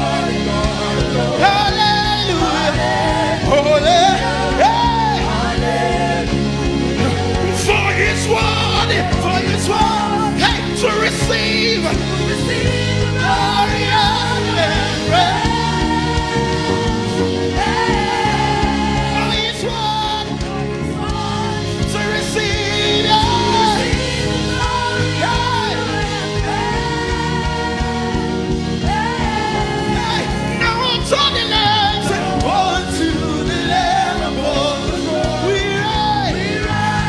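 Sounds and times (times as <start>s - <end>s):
band accompaniment: 0.0s - 37.0s.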